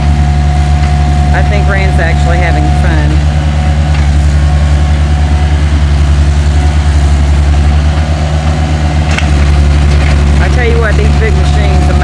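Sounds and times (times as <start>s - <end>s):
heavy machinery engine throbbing: 0.0s - 12.0s.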